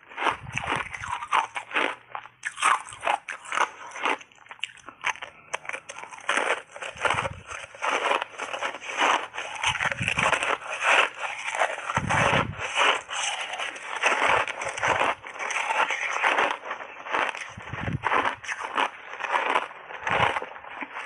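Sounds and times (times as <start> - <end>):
ice chunks crunching in mouth: 0.0 - 21.0.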